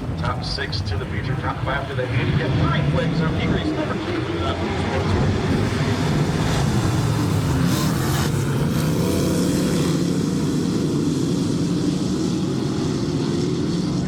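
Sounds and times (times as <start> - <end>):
race car engines at full throttle: 0.0 - 14.0.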